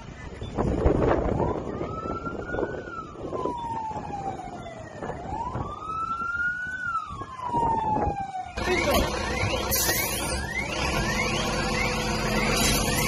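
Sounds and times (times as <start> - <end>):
emergency siren wailing: 0.9 - 13.0.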